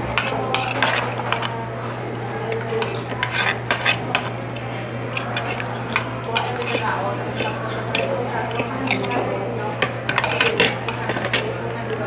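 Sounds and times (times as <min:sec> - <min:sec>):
cutlery scraping and clinking on plate: 0:00.0 - 0:12.0
steady low hum: 0:00.0 - 0:12.0.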